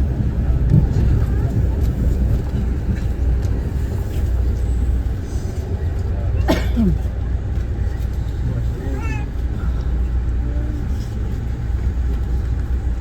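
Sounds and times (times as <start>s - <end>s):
train rumble inside coach: 0.0s - 13.0s.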